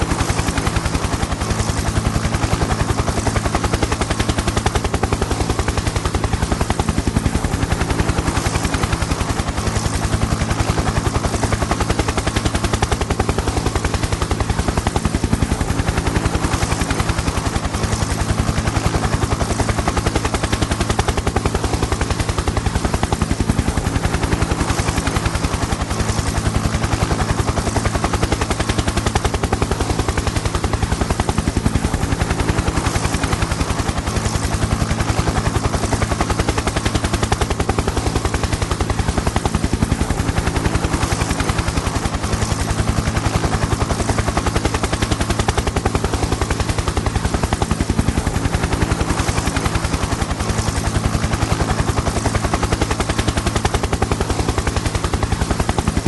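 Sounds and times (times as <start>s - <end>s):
helicopter rotor chop: 0.0s - 56.0s.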